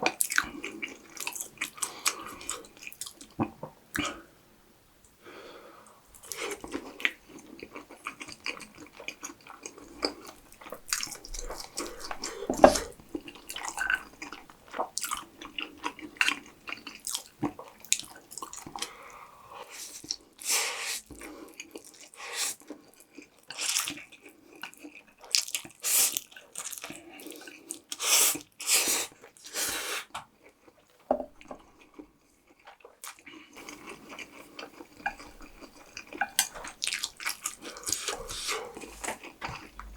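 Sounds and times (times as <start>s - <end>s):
person chewing food: 0.0s - 4.2s, 6.1s - 20.4s, 21.0s - 39.9s.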